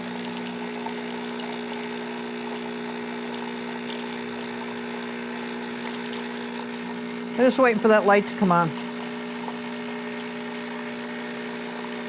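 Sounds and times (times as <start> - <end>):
espresso machine pump buzzing: 0.0 - 12.0.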